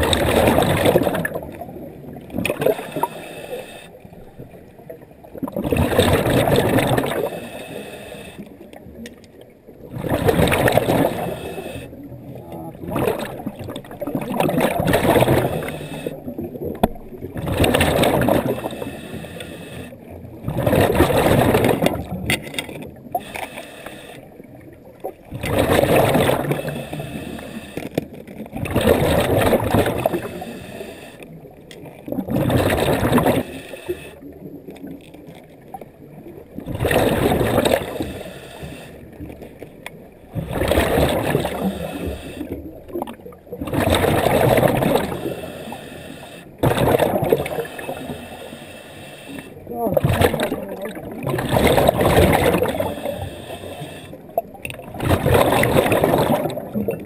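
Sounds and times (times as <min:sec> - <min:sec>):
diver's breath bubbling underwater: 0:00.0 - 0:04.0, 0:05.3 - 0:08.4, 0:09.8 - 0:22.3, 0:25.0 - 0:27.8, 0:28.6 - 0:31.3, 0:32.1 - 0:34.4, 0:36.5 - 0:39.2, 0:40.3 - 0:48.5, 0:49.5 - 0:57.0.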